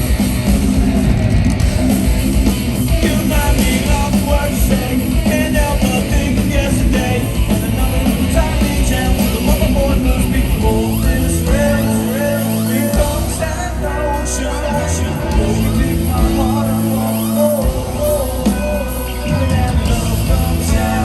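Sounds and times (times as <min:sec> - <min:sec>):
loud live rock music: 0:00.0 - 0:21.0
person singing: 0:03.0 - 0:21.0.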